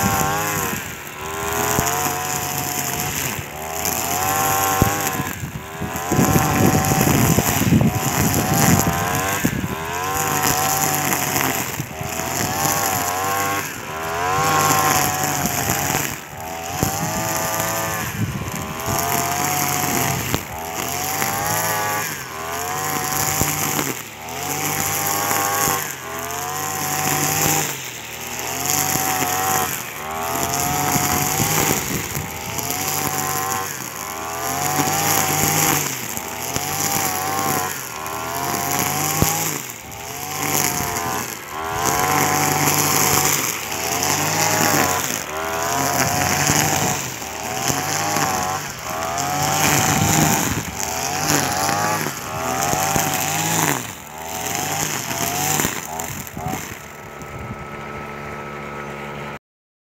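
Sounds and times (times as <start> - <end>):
brush cutter engine cutting grass: 0.0 - 59.4.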